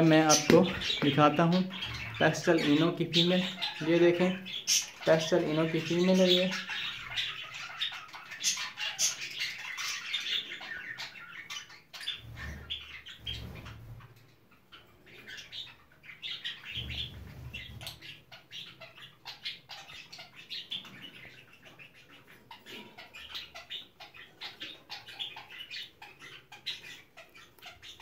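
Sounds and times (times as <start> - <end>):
cage birds chirping: 0.0 - 28.0.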